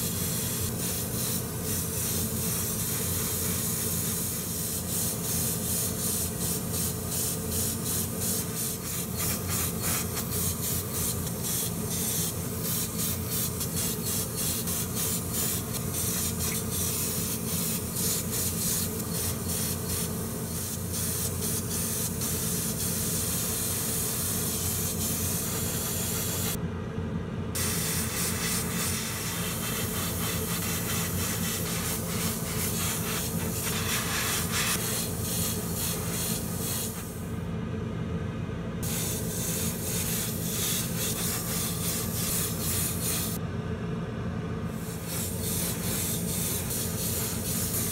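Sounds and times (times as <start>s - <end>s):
airbrush spraying hiss: 0.0s - 26.6s, 27.6s - 37.2s, 38.8s - 43.4s, 44.8s - 47.9s.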